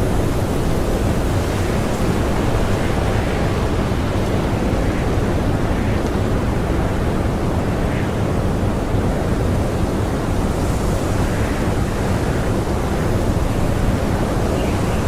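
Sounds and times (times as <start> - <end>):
strong blizzard wind: 0.0 - 15.0.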